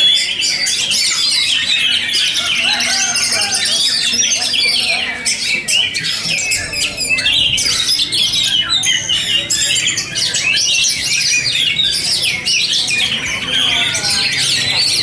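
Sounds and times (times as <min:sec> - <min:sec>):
chorus of songbirds singing: 0:00.0 - 0:15.0.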